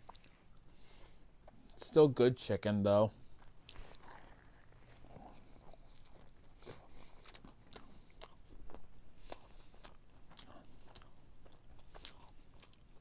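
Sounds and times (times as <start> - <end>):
mouth chewing food: 0.0 - 1.8, 3.4 - 13.0.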